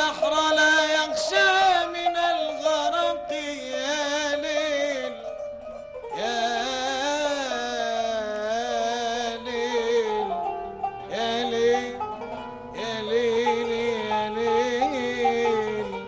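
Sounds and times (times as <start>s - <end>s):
man singing melismatic notes: 0.0s - 16.0s
plucked qanun: 0.0s - 16.0s.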